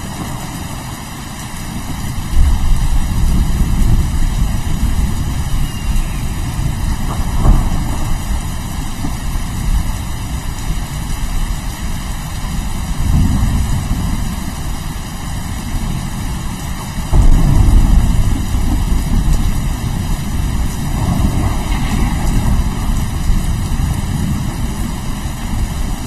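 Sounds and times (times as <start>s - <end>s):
rolling thunder: 0.0s - 26.0s
steady rain: 0.0s - 26.0s.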